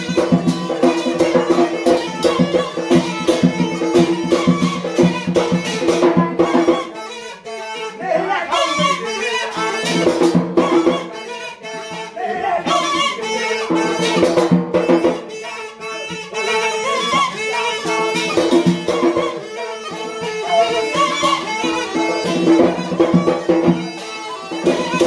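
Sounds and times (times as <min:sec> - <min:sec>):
drum beats: 0:00.0 - 0:25.0
reed pipe melody: 0:00.0 - 0:25.0.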